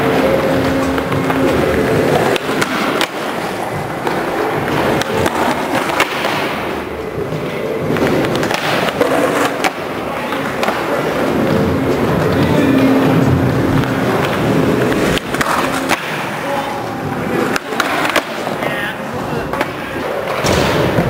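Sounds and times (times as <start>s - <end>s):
skateboard clacks: 0.0s - 21.0s
skateboard wheels rolling on concrete: 0.0s - 21.0s.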